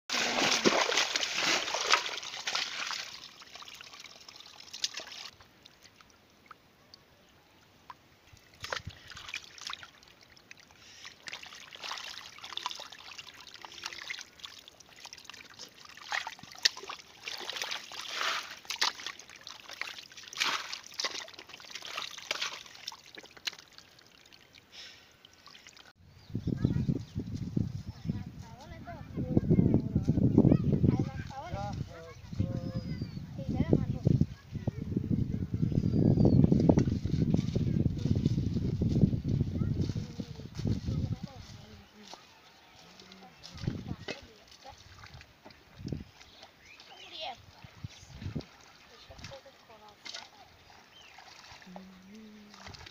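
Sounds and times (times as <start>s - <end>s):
muddy water trickling and splashing: 0.1s - 26.0s, 26.9s - 34.6s, 36.2s - 52.9s.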